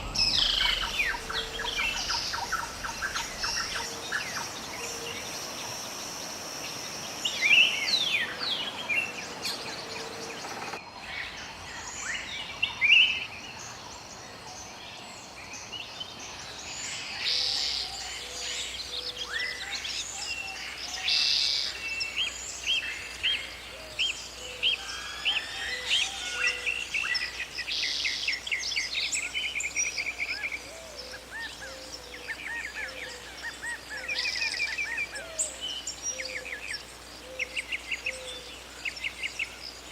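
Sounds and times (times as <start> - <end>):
outdoor background noise: 0.0 - 39.9
songbirds chirping: 0.0 - 39.9.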